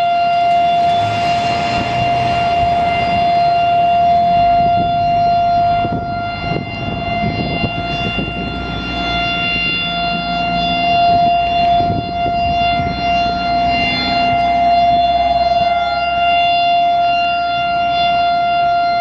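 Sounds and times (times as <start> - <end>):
rotating warning siren steady tone: 0.0 - 19.0.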